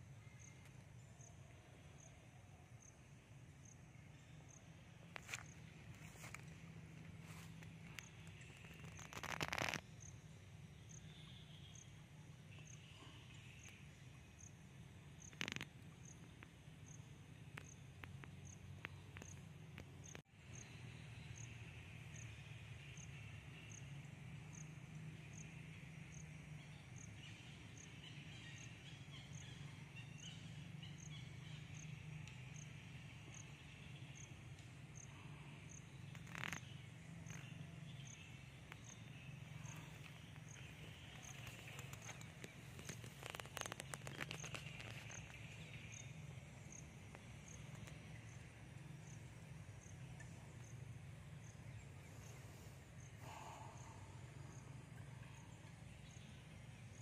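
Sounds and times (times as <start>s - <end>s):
insect hiss: 0.0s - 57.0s
high insect chirp: 2.8s - 57.0s.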